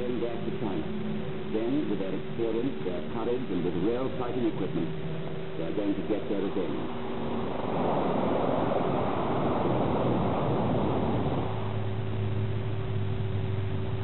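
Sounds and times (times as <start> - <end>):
propeller planes flying past: 0.0 - 14.0.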